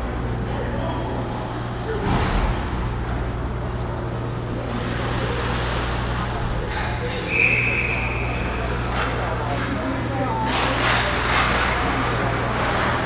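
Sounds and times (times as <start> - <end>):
game venue background hum: 0.0 - 13.0.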